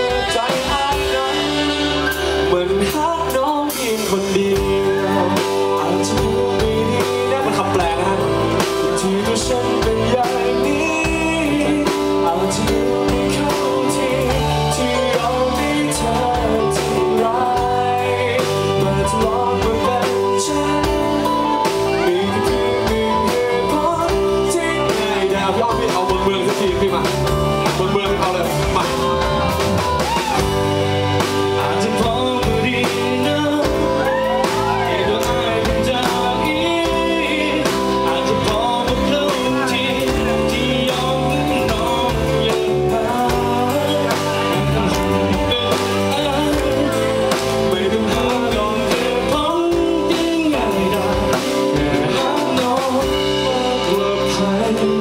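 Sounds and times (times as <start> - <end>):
live acoustic band playing: 0.0 - 55.0
person singing: 0.0 - 55.0.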